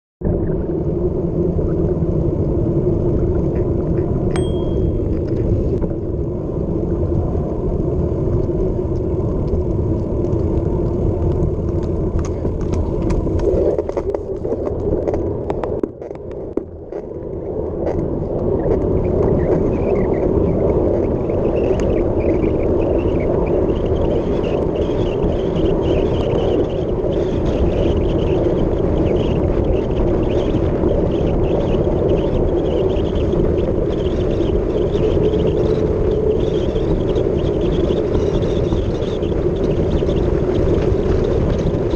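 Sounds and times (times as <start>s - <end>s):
mountain bike rumble: 0.2s - 41.9s
wind rushing over microphone: 0.2s - 41.9s.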